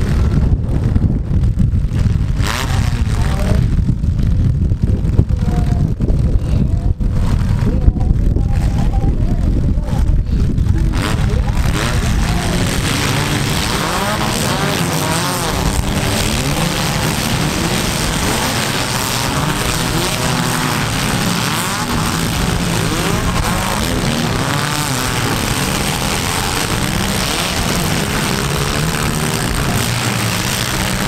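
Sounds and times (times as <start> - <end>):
small car engines revving: 0.0 - 9.1, 9.8 - 31.0
constant low rumble: 0.0 - 31.0.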